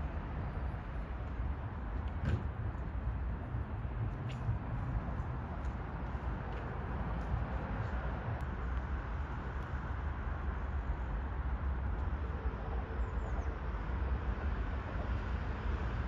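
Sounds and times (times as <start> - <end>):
distant city traffic: 0.0 - 16.0.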